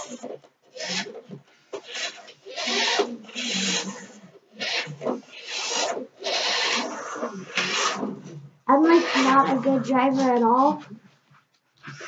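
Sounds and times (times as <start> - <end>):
toy car motor whirring: 0.0 - 10.4.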